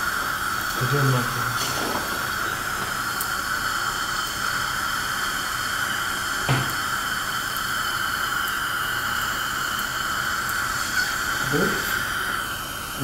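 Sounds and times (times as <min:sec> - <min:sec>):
dental suction hissing: 0:00.0 - 0:13.0.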